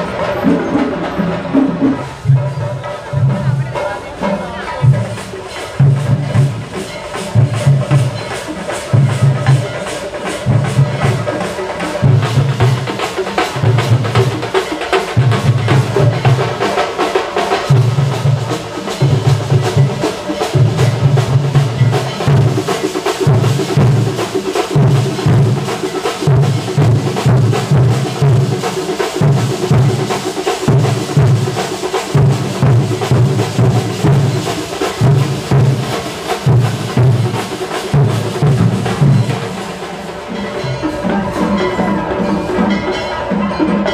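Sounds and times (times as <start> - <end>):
deep drum strokes: 0.0 - 43.9
percussion ensemble drumming: 0.0 - 43.9.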